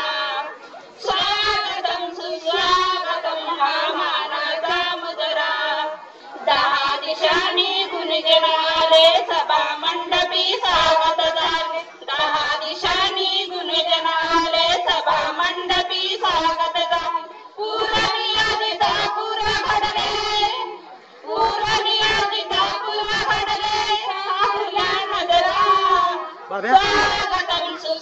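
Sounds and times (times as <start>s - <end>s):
women singing together: 0.0s - 28.0s.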